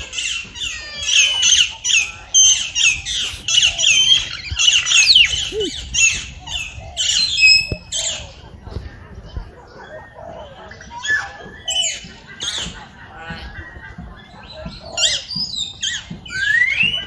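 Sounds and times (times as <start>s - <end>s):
many small birds chirping and squawking: 0.0s - 17.0s.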